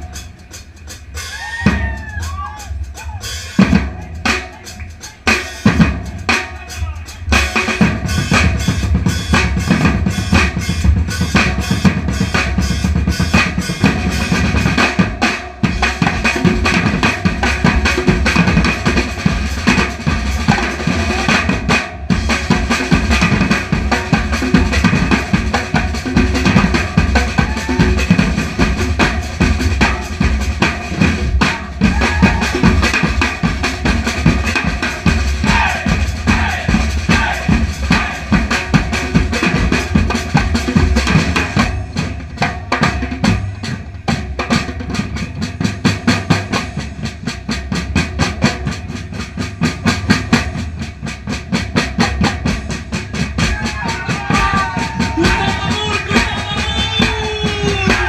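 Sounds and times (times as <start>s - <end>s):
drums playing busy rhythm: 0.0s - 58.0s.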